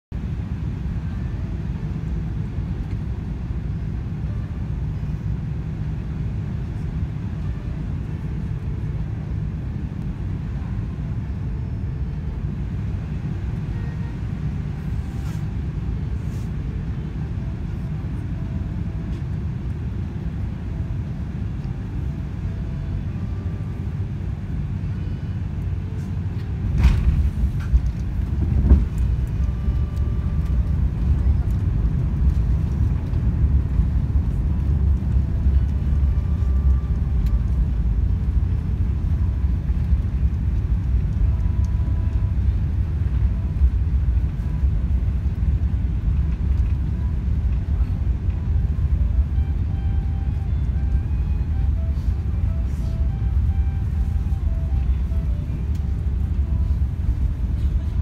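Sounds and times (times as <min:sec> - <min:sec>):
aircraft cabin rumble: 0:00.1 - 0:58.0.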